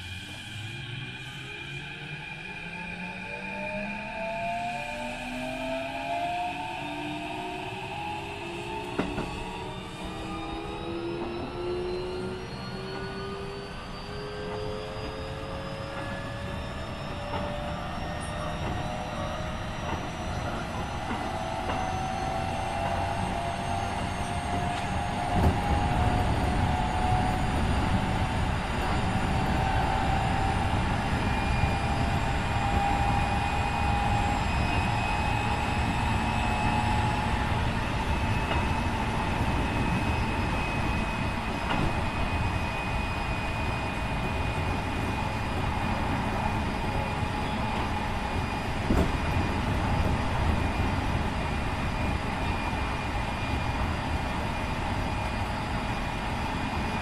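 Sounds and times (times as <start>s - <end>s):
train wheels rumbling on rail: 2.5s - 57.0s.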